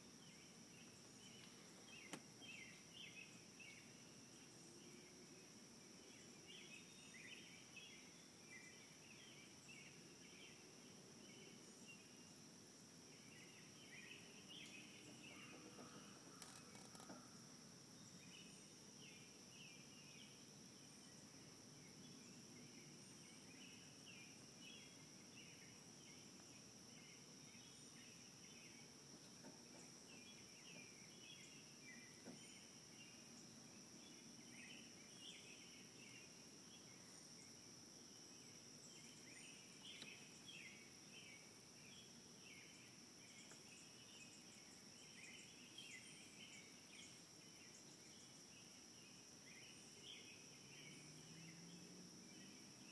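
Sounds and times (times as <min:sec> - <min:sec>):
insect or bird chirps: 0:00.0 - 0:52.9.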